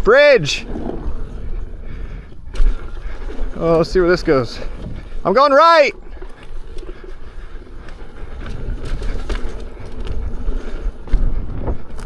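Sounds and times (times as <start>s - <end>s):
tyre and wind rumble: 0.0s - 12.0s.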